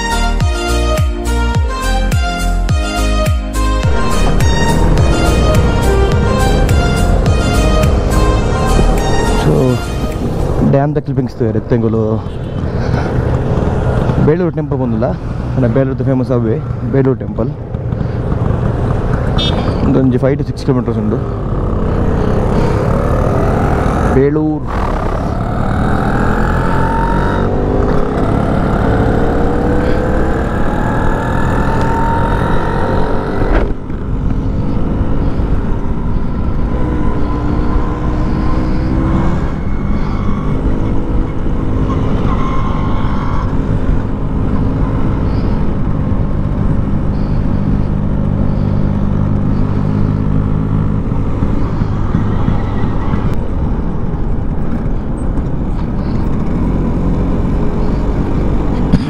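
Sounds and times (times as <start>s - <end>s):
scooter engine accelerating: 3.9s - 10.5s, 17.6s - 59.0s.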